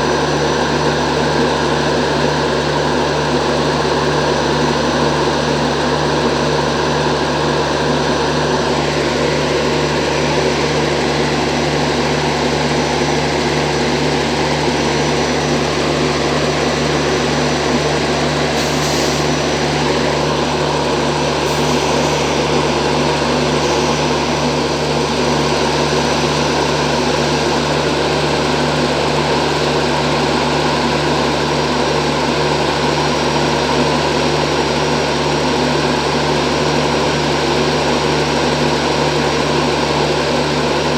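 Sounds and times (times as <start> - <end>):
generator machine hum: 0.0 - 40.9.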